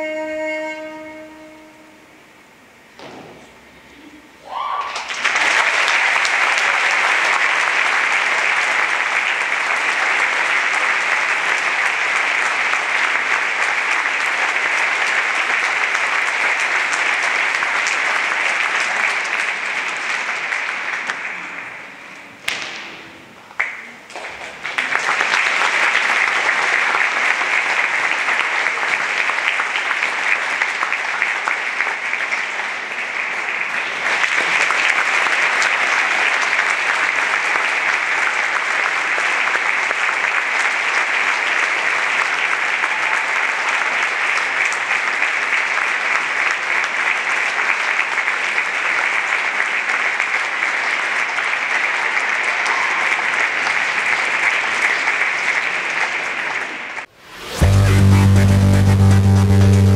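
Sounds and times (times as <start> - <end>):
audience applauding: 4.5 - 22.6, 23.2 - 59.9.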